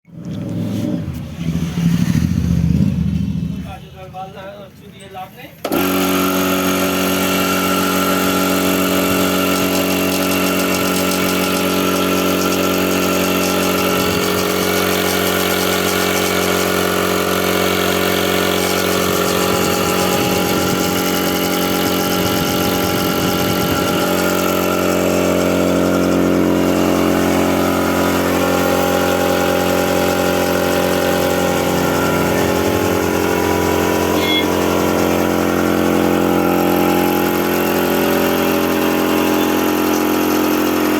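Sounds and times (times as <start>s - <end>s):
air compressor running: 5.2s - 40.9s.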